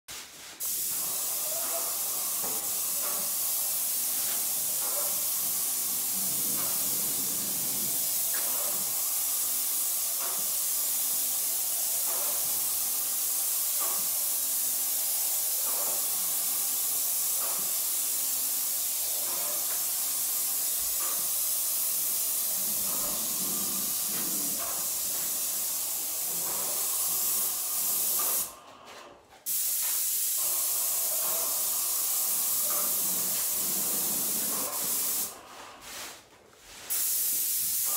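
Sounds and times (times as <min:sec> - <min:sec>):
spray gun hissing: 0:00.4 - 0:28.6, 0:29.4 - 0:36.1, 0:36.8 - 0:37.9.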